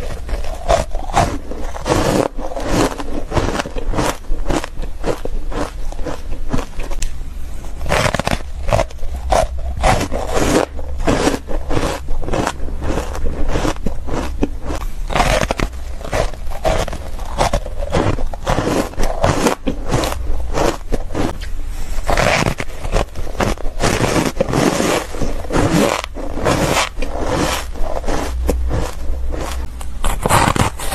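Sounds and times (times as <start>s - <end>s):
crunching shaved ice: 0.0s - 7.0s, 7.6s - 30.9s.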